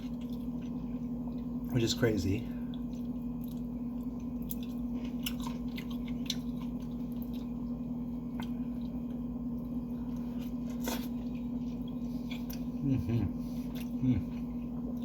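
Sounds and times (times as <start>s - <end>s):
person chewing food: 0.0s - 1.7s, 2.6s - 15.0s
steady low hum: 0.0s - 15.0s.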